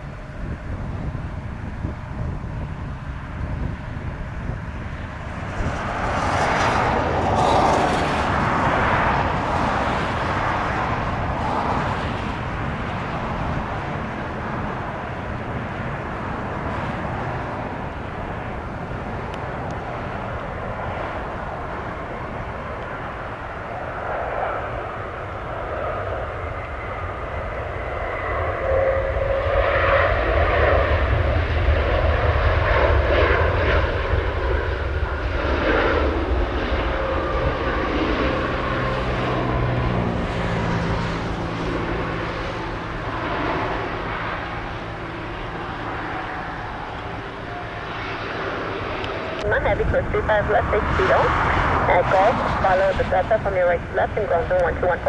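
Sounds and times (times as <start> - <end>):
jet airliner engines passing: 0.0 - 55.0
jet engines whining: 0.0 - 55.0.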